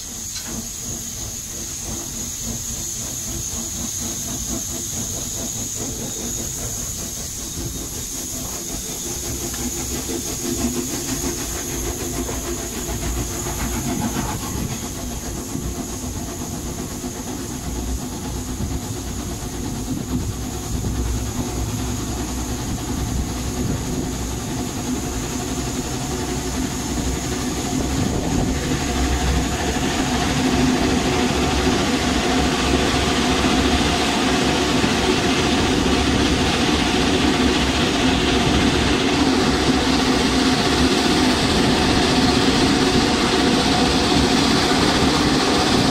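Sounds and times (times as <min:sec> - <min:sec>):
steam hissing: 0:00.0 - 0:45.9
train wheels on rails: 0:00.0 - 0:45.9.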